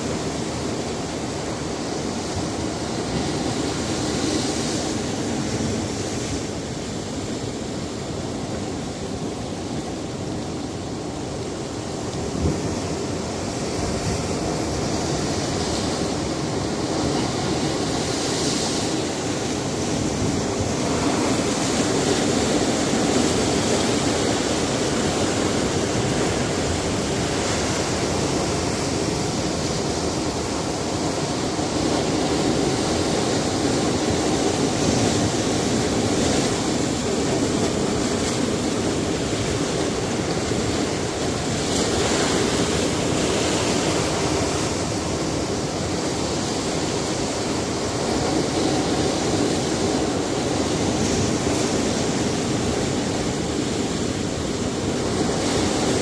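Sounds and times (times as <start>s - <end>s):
waves on rocky shore: 0.0s - 56.0s.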